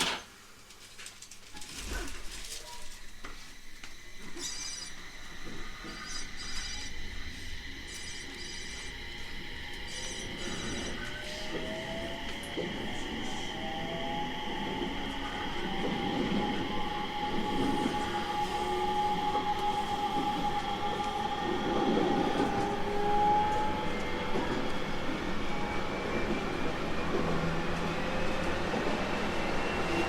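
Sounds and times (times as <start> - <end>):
electric train motor whine: 3.2 - 30.0.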